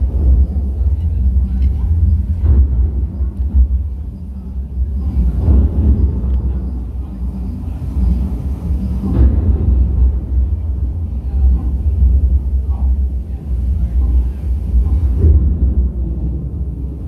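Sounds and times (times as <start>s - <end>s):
loud low rumble: 0.0s - 17.0s
murmur of voices: 0.0s - 17.0s.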